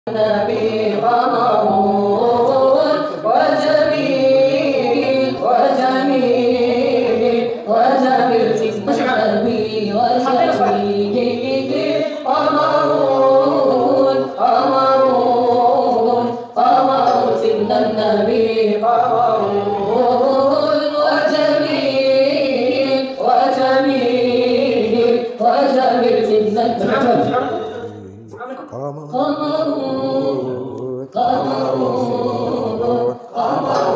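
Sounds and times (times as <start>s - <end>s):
devotional chanting: 0.0s - 33.9s.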